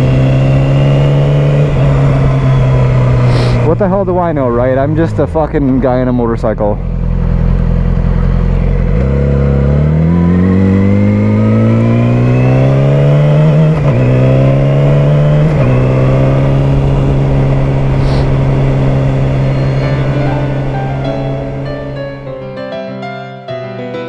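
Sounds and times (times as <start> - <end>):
motorcycle engine accelerating: 0.0 - 22.4.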